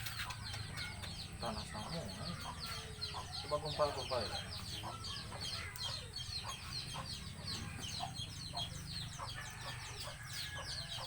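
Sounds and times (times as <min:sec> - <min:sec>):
chickens clucking: 0:00.0 - 0:11.0
chickens peeping: 0:00.0 - 0:11.0.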